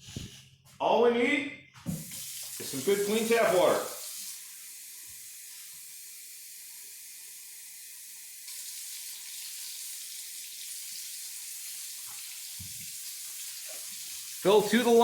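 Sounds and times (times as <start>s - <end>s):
tap water running: 1.8s - 15.0s.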